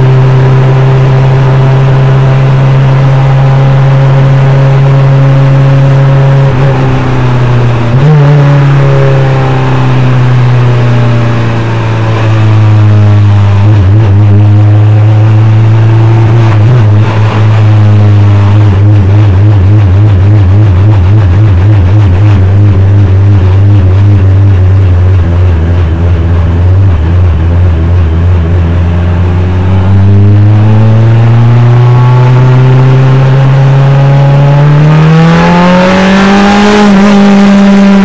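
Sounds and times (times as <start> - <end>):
race car engine from cockpit: 0.0 - 38.0.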